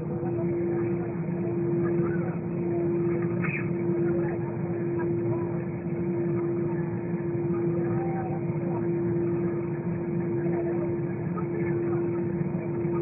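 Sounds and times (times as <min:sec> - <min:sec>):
airplane cabin drone: 0:00.0 - 0:13.0
faint voices: 0:00.0 - 0:13.0.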